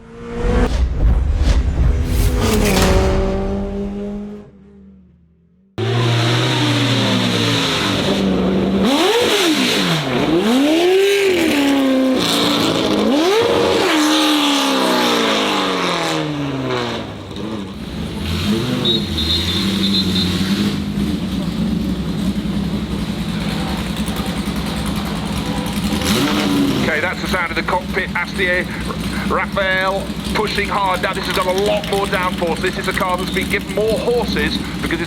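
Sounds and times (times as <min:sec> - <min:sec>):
loud vee eight engine revving: 0:00.0 - 0:35.0.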